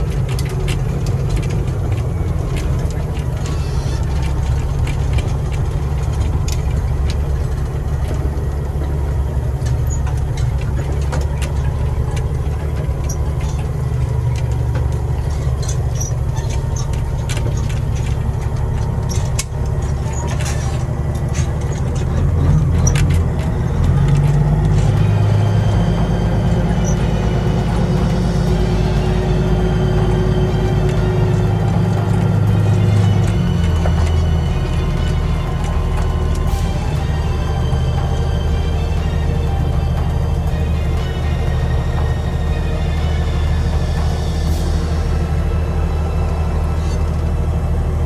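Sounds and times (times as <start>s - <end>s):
truck diesel engine droning: 0.0s - 48.0s.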